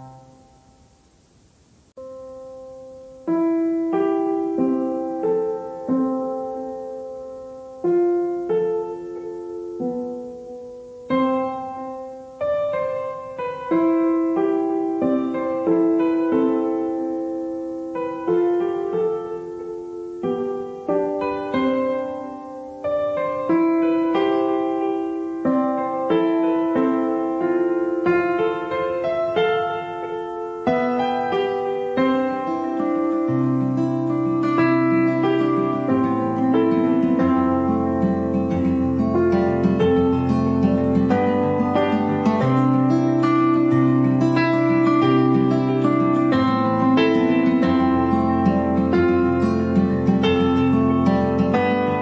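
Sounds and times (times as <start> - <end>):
slow solo piano: 0.0 - 52.0.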